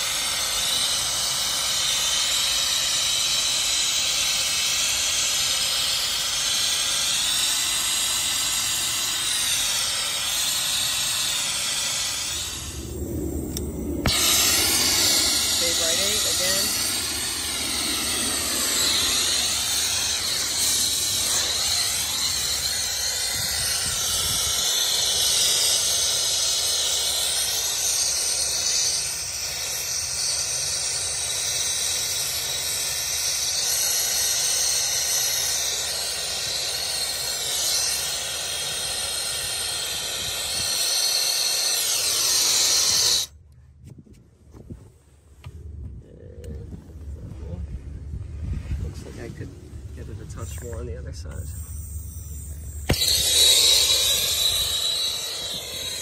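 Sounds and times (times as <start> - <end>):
torch burning with steady hiss: 0.0 - 43.3, 48.9 - 56.0.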